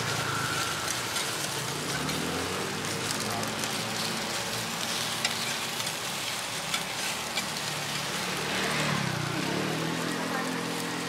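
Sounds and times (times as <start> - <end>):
buns sizzling in hot oil: 0.0 - 11.0.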